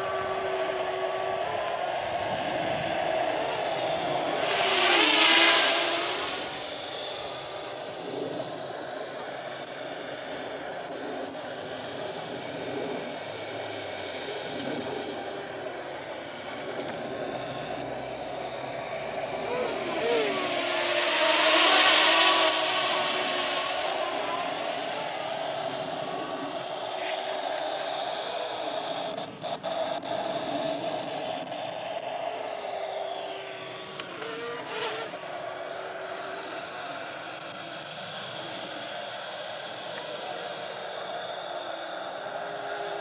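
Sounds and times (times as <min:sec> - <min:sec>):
quadcopter propellers buzzing: 0:00.0 - 0:43.0.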